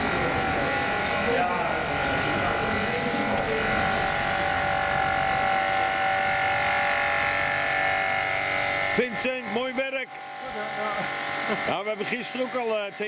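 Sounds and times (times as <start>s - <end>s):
pressure washer motor hum: 0.0s - 13.0s
water jet hissing: 0.0s - 13.0s.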